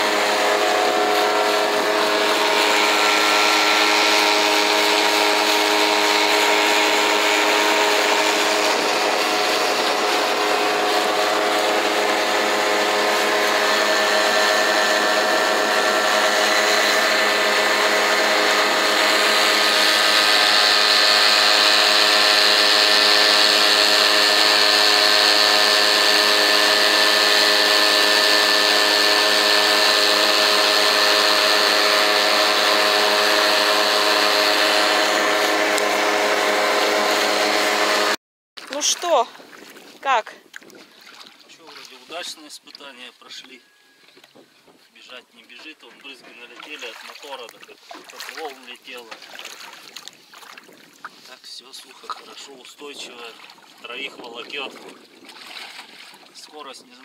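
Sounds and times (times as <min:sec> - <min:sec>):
outboard motor running: 0:00.0 - 0:57.0.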